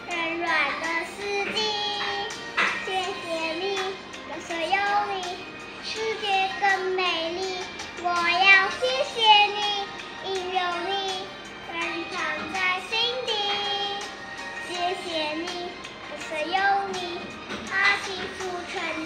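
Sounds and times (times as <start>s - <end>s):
accompaniment music: 0.0s - 19.0s
girl singing: 0.0s - 19.0s.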